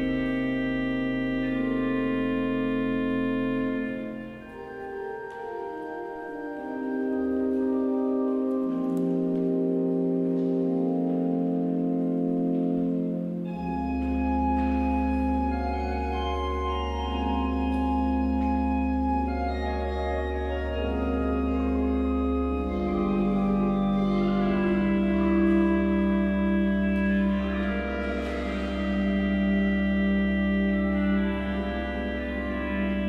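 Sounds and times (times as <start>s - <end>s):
pipe organ chords: 0.0s - 33.0s.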